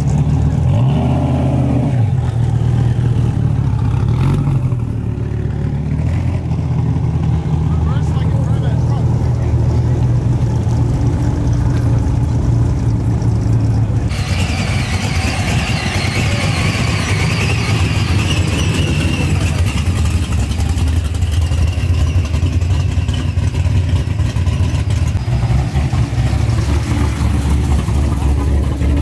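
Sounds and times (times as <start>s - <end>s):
car engine idling: 0.0s - 1.0s, 2.1s - 29.0s.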